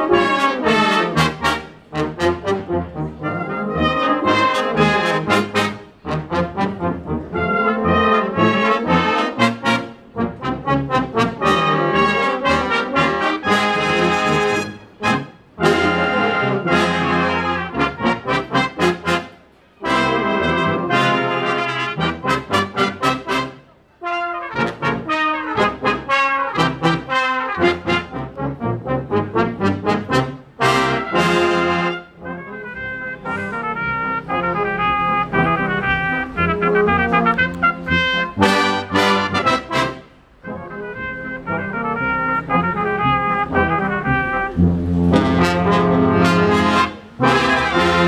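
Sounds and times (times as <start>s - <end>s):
brass band playing a march: 0.0s - 48.0s.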